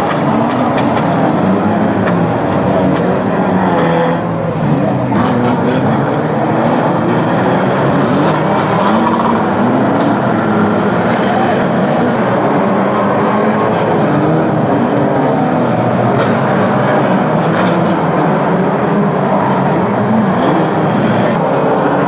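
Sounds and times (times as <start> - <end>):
racing car engines revving: 0.0 - 22.0.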